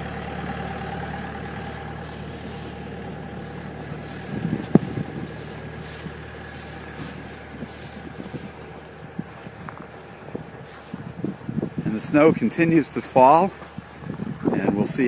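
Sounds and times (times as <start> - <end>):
snowplow engine running: 0.0 - 15.0.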